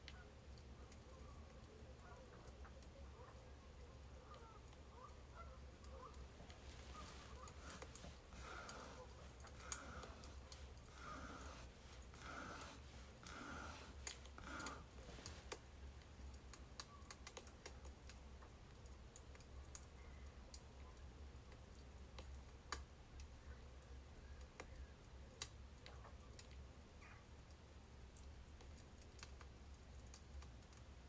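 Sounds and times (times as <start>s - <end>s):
faint low hum: 0.0s - 31.0s
firewood crackling and popping: 0.0s - 31.0s.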